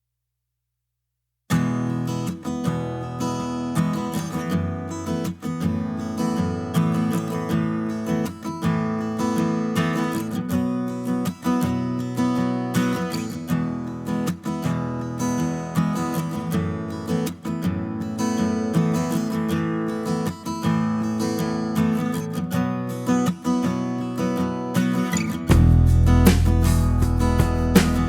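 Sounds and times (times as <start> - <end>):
strummed acoustic guitar: 1.5 - 28.0.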